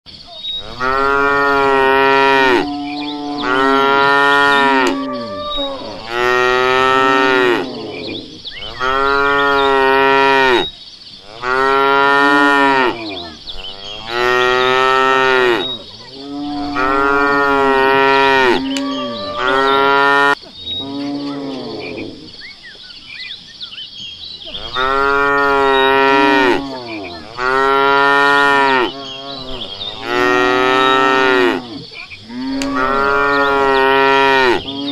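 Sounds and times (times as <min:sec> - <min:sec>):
cow mooing: 0:00.6 - 0:10.7, 0:11.3 - 0:22.3, 0:24.5 - 0:34.9.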